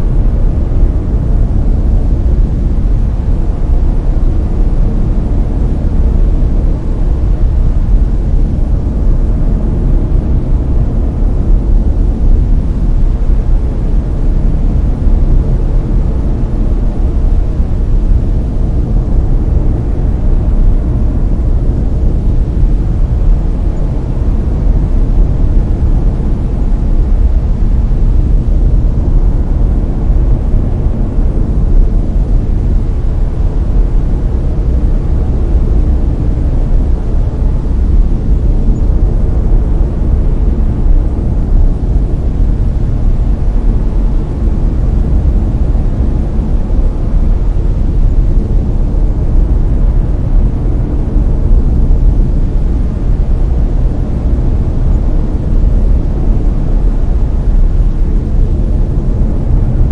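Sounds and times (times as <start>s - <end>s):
deep rumbling brown noise: 0.0s - 59.9s.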